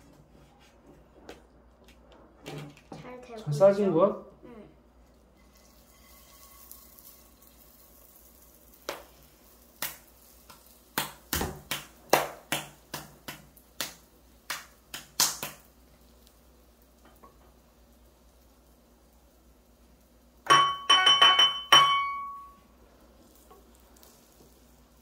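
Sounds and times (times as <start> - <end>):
food frying: 4.8 - 25.0.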